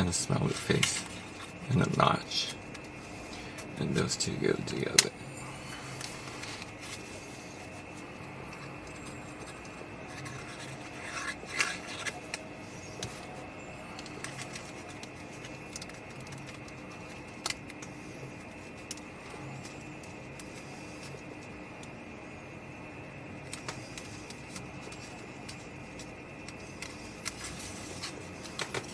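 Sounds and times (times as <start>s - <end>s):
paper rubbing and rustling: 0.0s - 4.1s, 5.6s - 21.4s, 23.5s - 28.9s
faint hum: 0.0s - 28.9s.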